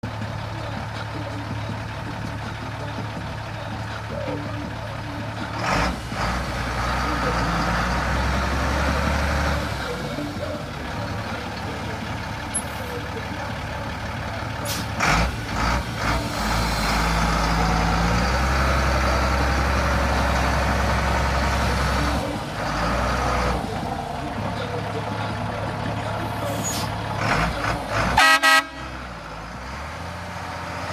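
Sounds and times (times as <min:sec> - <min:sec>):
diesel engine idling: 0:00.0 - 0:30.9.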